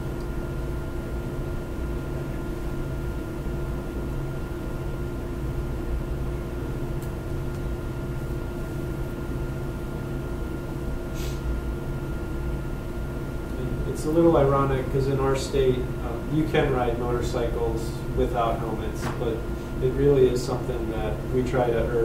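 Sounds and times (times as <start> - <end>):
steady equipment hum: 0.0 - 22.0.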